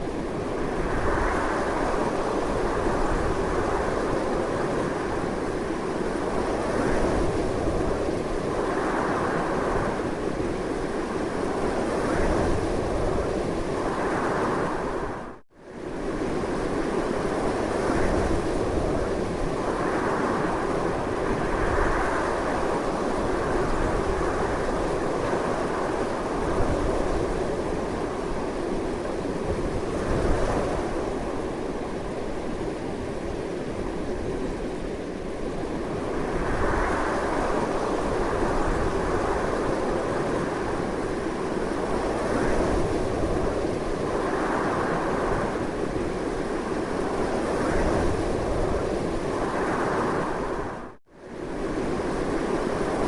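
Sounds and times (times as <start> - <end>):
strong wind buffeting: 0.0 - 53.0.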